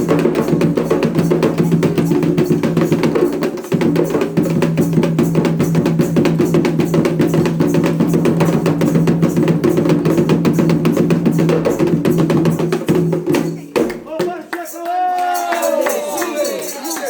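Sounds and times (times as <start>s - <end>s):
fast hand drumming: 0.0s - 14.5s
other percussion: 0.0s - 17.0s.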